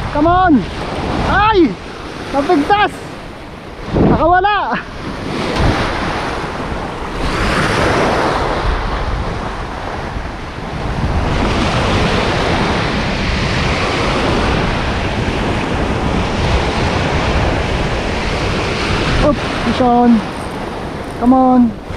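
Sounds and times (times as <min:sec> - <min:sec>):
small waves breaking on shore: 0:00.0 - 0:21.9
wind rumbling on microphone: 0:00.0 - 0:21.9.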